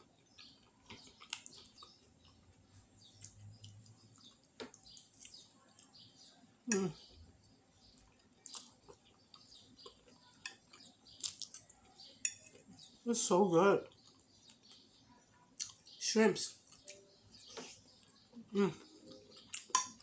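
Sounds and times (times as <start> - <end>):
chewing and mouth sounds: 0.0 - 6.0, 7.9 - 13.0, 13.8 - 16.0, 16.6 - 20.0.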